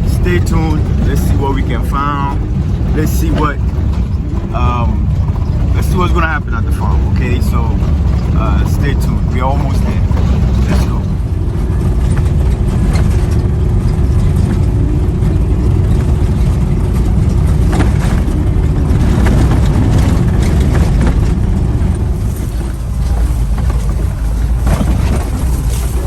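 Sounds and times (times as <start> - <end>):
car interior rumble: 0.0 - 26.0
short knocks and rattles: 0.0 - 26.0.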